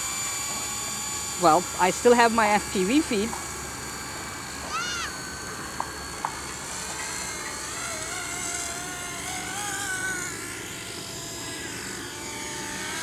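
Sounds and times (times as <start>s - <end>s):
rc helicopter rotor whine: 0.0s - 13.0s.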